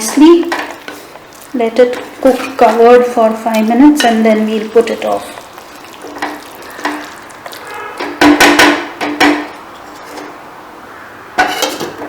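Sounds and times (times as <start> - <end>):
metal cookware clanking: 0.0 - 10.4, 11.4 - 12.0.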